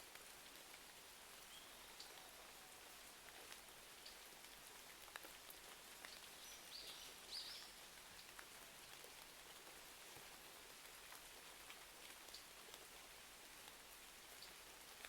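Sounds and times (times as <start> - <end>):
faint rain: 0.0 - 15.0.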